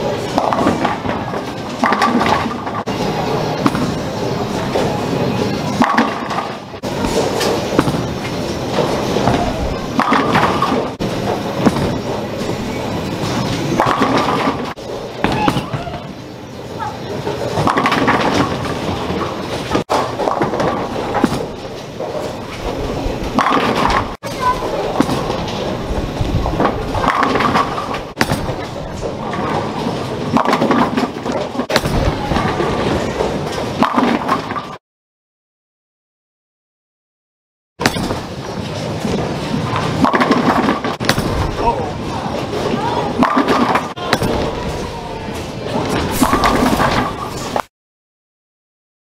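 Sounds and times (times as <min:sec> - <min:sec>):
bowling pins clattering: 0:00.0 - 0:16.3, 0:16.9 - 0:34.8, 0:37.8 - 0:45.0, 0:45.6 - 0:47.6
bowling balls rolling: 0:00.0 - 0:34.8, 0:37.8 - 0:47.7.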